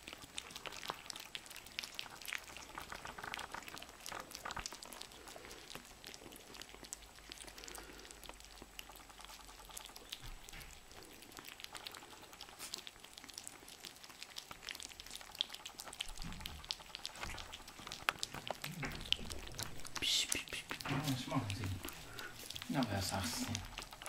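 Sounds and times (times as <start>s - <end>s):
puppies lapping food: 0.0s - 24.0s.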